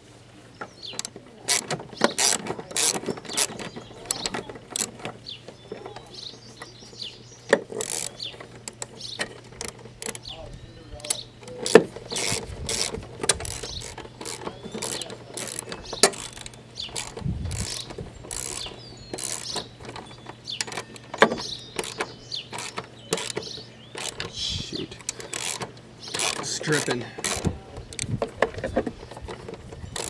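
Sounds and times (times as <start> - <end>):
hand tools clanking on metal: 0.8 - 30.0.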